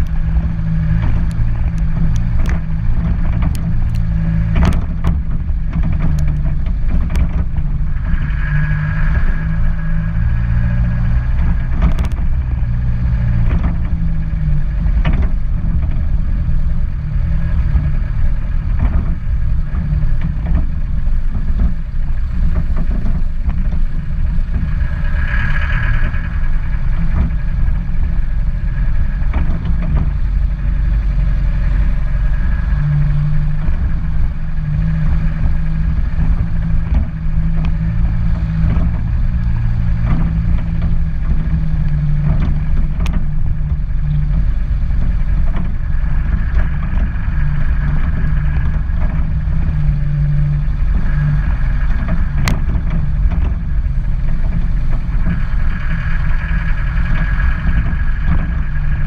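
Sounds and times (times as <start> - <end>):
car engine: 0.0 - 59.0
low hum: 0.0 - 59.0
tyres on wet road: 0.0 - 59.0.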